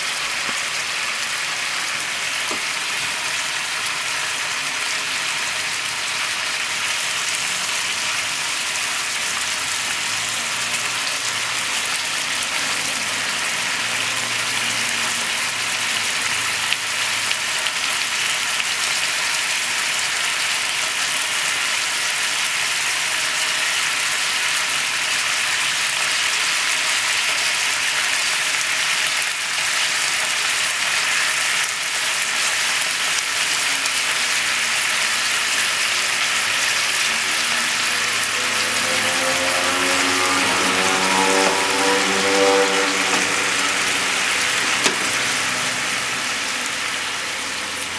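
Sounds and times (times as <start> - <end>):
food sizzling in a frying pan: 0.0 - 47.9.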